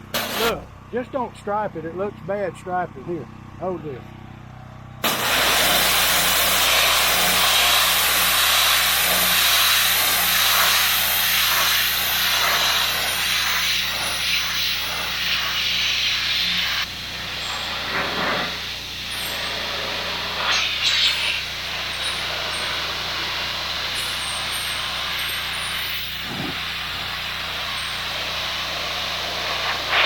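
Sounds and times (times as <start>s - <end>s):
pressure washer spray on metal: 0.0s - 0.6s, 5.0s - 30.0s.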